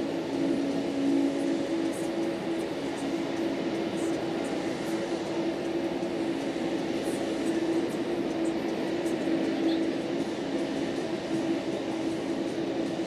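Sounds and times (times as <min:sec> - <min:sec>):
jet aircraft drone: 0:00.0 - 0:13.0.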